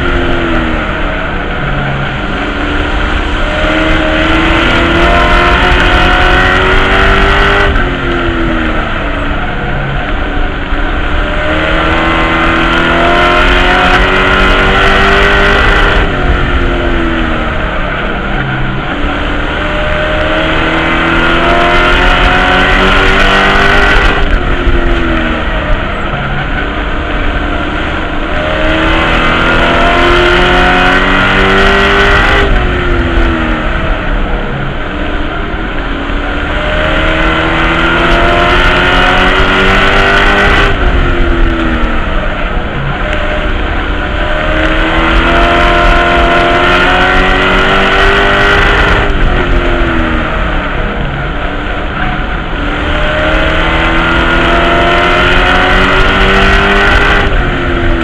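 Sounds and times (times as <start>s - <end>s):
truck engine at racing speed: 0.0s - 58.0s.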